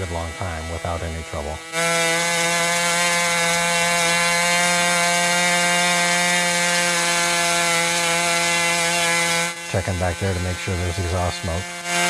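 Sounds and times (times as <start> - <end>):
two-stroke model engine running: 0.0 - 12.0.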